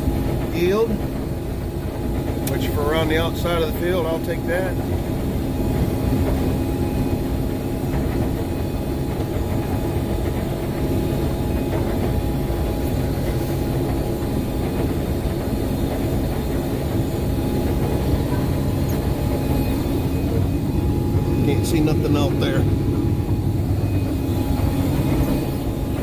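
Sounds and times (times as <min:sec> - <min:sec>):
combine harvester machinery drone: 0:00.0 - 0:26.0
low hums: 0:00.0 - 0:26.0.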